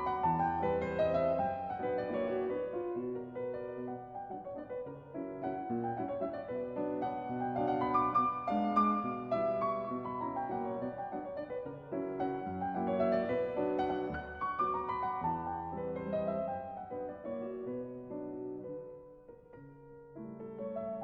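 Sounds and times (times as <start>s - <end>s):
piano notes over chords: 0.0s - 21.0s.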